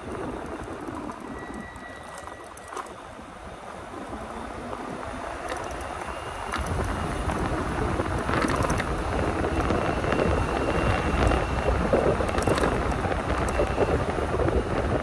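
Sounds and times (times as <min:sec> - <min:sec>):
wind and tires rumbling on road: 0:00.0 - 0:15.0.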